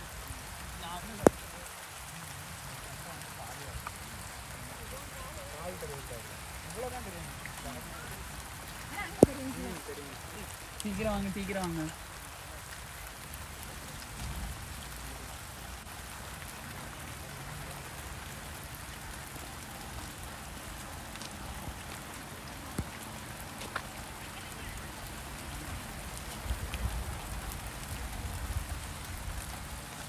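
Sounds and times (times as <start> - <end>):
light rain hissing: 0.0 - 30.0
raindrop ticks: 0.0 - 30.0.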